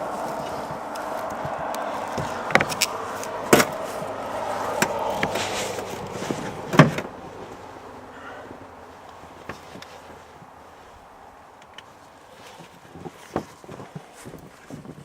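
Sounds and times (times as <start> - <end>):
pickup engine idling: 0.0 - 13.5.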